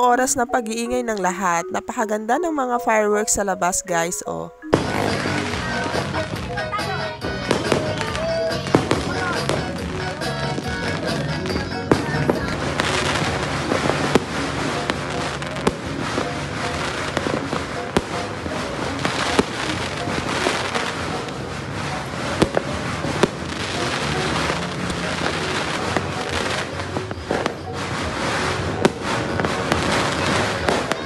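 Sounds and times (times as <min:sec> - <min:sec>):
fireworks crackling and banging: 0:04.7 - 0:31.0.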